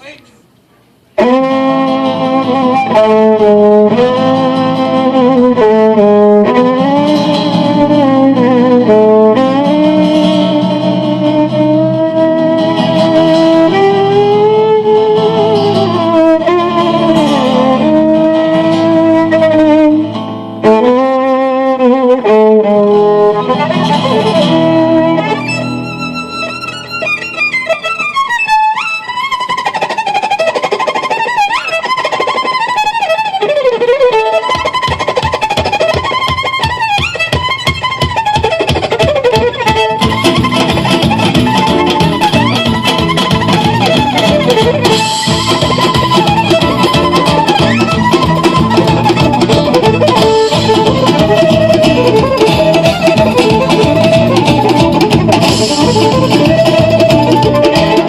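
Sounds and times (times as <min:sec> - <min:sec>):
strummed rhythm: 0:01.1 - 0:58.0
violin playing: 0:01.2 - 0:58.0.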